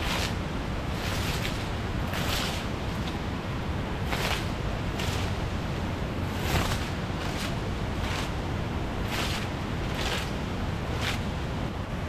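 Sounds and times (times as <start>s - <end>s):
leafy branch swishing on bamboo: 0.0s - 3.4s, 4.0s - 11.6s
river rushing: 0.0s - 12.0s.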